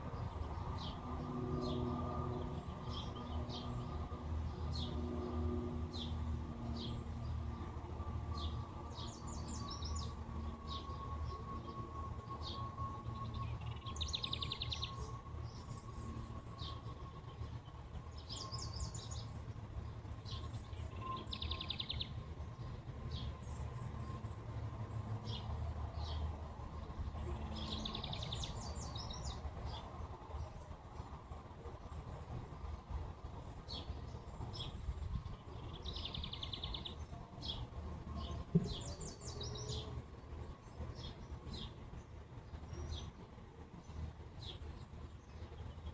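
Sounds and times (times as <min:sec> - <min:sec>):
low outdoor rumble: 0:00.0 - 0:45.9
songbirds chirping: 0:00.0 - 0:45.9.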